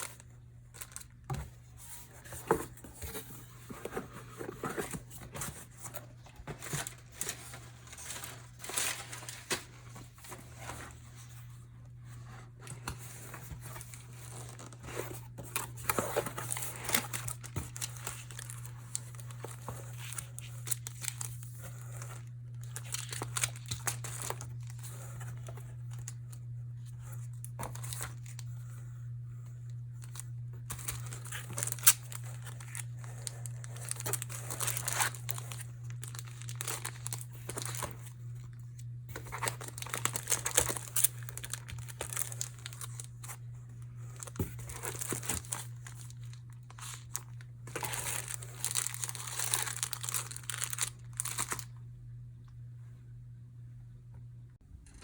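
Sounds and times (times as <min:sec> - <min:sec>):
packaging crinkling and tearing: 0:00.0 - 0:01.3, 0:02.2 - 0:10.1, 0:12.8 - 0:26.4, 0:27.3 - 0:28.5, 0:30.0 - 0:43.4, 0:44.2 - 0:51.7
steady low hum: 0:00.0 - 0:55.0.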